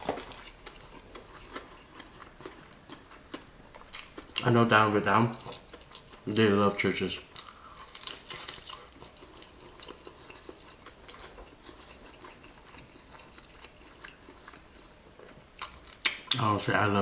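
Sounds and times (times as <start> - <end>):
person chewing crunchy food: 0.0 - 6.5, 7.2 - 16.4.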